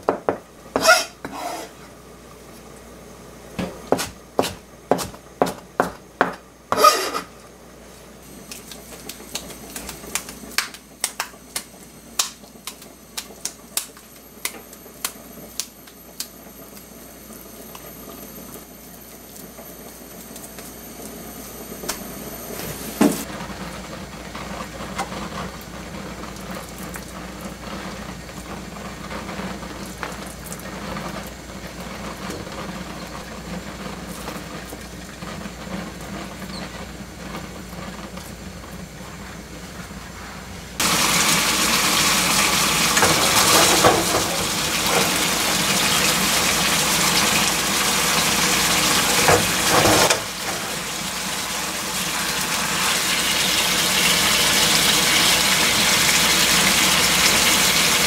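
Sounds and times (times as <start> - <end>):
pan sizzling and bubbling: 0.0 - 58.0.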